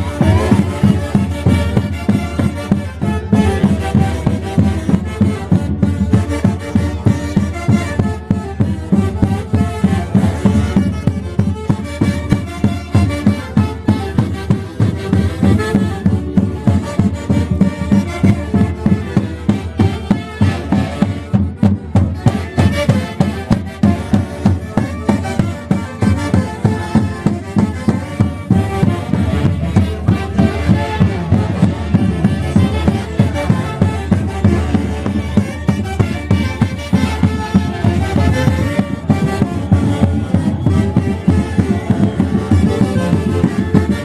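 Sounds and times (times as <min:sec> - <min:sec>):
festival band music: 0:00.0 - 0:44.0.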